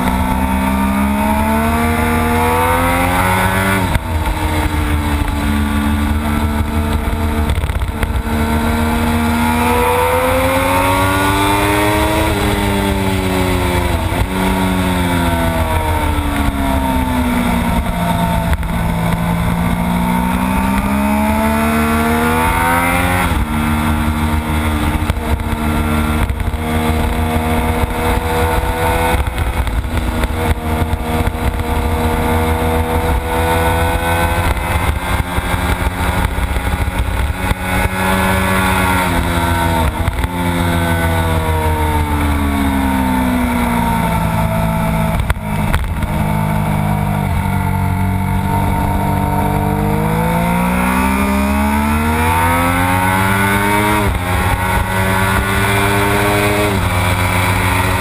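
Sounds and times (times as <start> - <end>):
gear change: 0.0 - 58.0
motorcycle engine revving: 0.0 - 58.0
wind rushing on microphone: 0.0 - 58.0.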